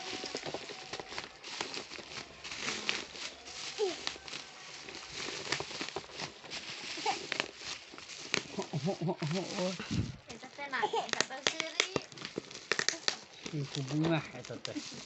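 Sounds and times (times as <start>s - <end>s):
plastic and cardboard packaging crinkling: 0.0s - 15.0s.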